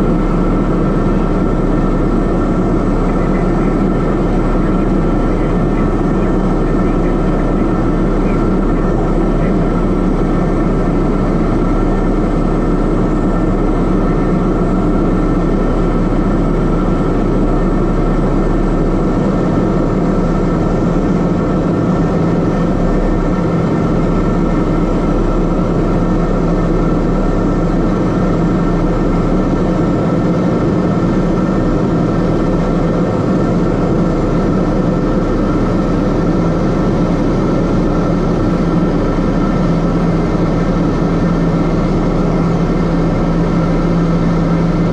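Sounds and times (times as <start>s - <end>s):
turboprop engine drone: 0.0s - 44.9s.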